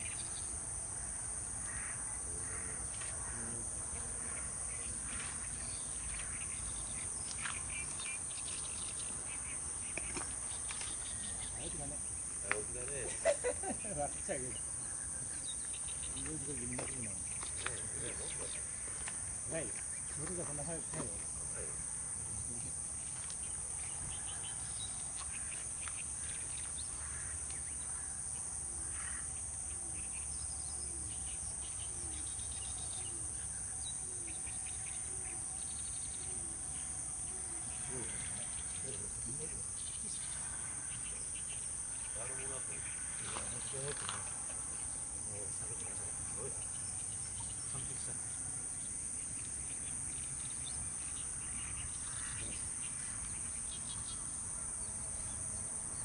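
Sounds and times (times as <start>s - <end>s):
faint scattered calls: 0.0s - 55.6s
high-pitched insect chorus: 0.0s - 56.0s.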